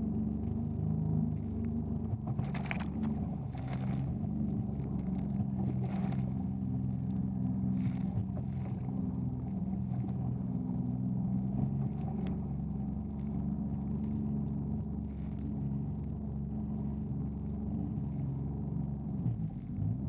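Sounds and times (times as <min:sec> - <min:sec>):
jet ski engine running: 0:00.0 - 0:20.0.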